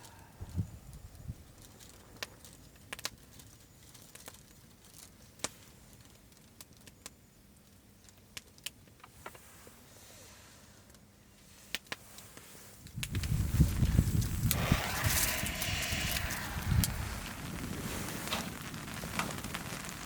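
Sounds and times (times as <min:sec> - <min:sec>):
faint steady background noise: 0:00.0 - 0:20.0.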